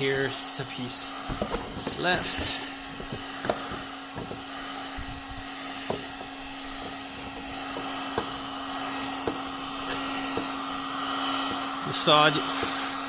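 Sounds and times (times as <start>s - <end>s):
heat gun fan humming: 0.0s - 13.0s.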